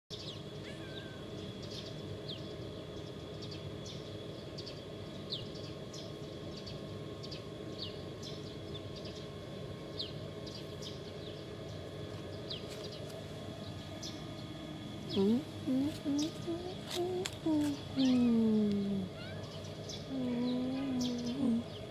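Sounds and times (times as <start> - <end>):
small birds chirping: 0.1 - 21.9
steady low rumble: 1.2 - 21.9.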